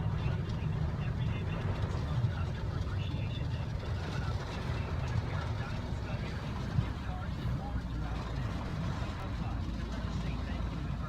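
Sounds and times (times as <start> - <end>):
car engine rumbling from inside cabin: 0.0 - 11.0.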